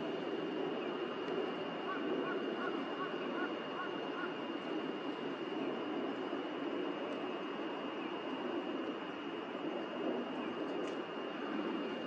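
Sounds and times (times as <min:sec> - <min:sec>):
rushing outdoor noise: 0:00.0 - 0:12.0.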